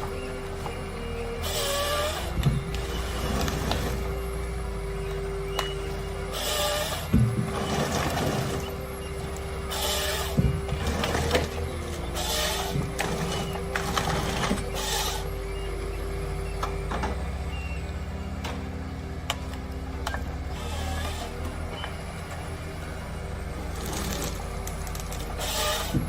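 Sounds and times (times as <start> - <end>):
bursts of rough noise: 0.0 - 26.0
heavy machinery engine drone: 0.0 - 26.0.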